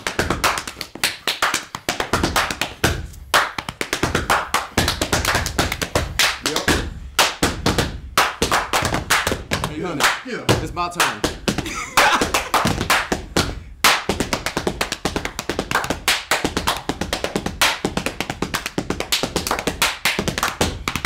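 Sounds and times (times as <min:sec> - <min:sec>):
foot stomps: 0:00.0 - 0:21.0
hand claps: 0:00.0 - 0:21.0.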